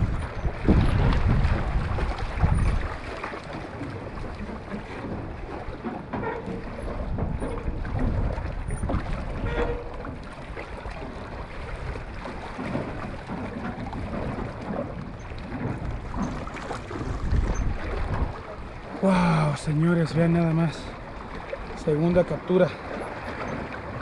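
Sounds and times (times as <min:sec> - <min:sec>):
gusty wind buffeting microphone: 0:00.0 - 0:03.1, 0:03.8 - 0:22.7.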